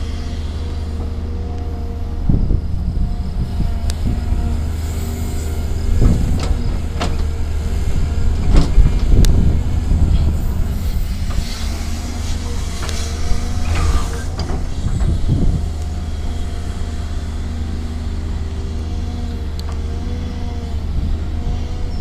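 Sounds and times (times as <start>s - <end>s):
excavator diesel engine: 0.0s - 22.0s.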